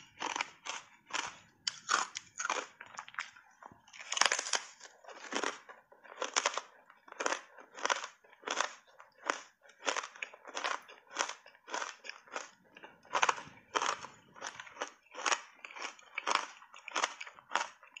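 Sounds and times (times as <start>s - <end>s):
chewing crunchy ice: 0.0s - 18.0s.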